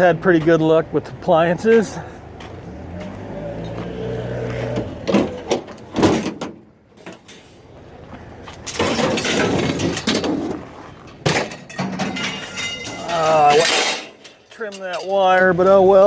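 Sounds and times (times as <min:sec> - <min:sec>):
scrap metal clattering and sliding: 0:01.7 - 0:16.0.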